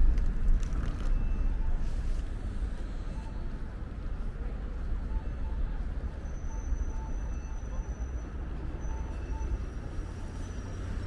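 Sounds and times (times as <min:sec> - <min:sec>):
traffic rumble: 0:00.0 - 0:11.0
wind: 0:00.0 - 0:11.0.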